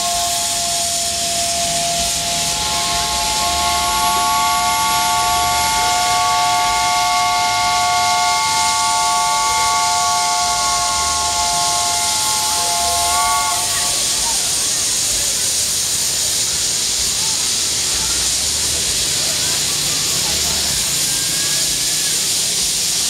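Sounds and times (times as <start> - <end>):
hissing steam: 0.0 - 23.0
steam locomotive whistles chord: 0.0 - 23.0.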